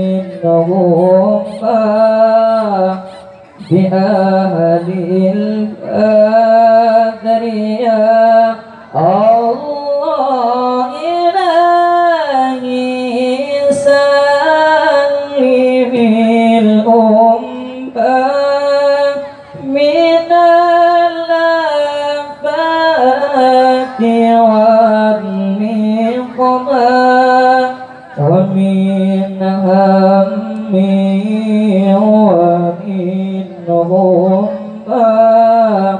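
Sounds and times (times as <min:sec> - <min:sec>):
man reciting melodically: 0:00.0 - 0:35.9.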